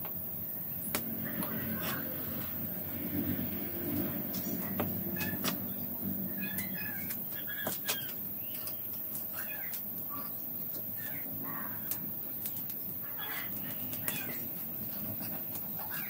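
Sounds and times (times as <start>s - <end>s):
charcoal fire crackling: 0.0s - 16.0s
birds calling: 0.4s - 16.0s.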